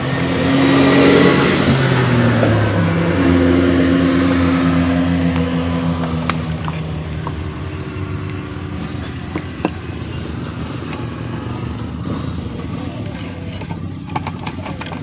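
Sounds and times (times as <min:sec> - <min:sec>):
traffic rumble: 0:00.0 - 0:15.0
vehicle engine hum: 0:00.0 - 0:15.0.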